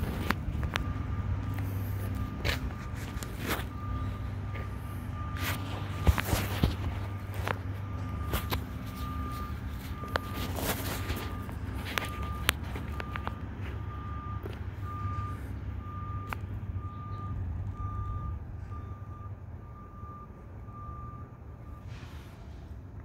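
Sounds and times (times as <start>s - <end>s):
truck backup alarm beeping: 0.0s - 23.0s
truck engine rumble: 0.0s - 23.0s.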